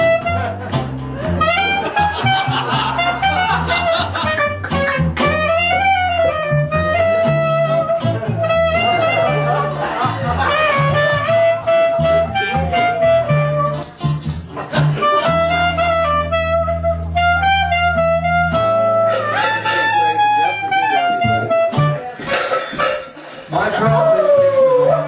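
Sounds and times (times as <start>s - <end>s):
jazz saxophone melody: 0.0s - 23.5s.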